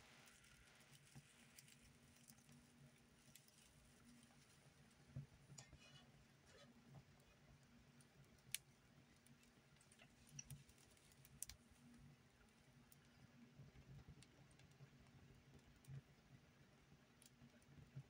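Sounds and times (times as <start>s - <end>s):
fire crackling: 0.0s - 16.2s.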